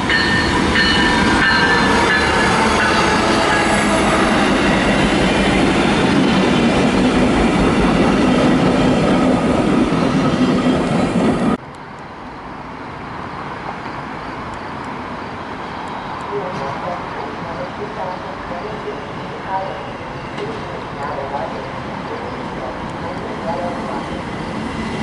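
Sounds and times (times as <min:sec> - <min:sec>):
outdoor background: 0:00.0 - 0:25.0.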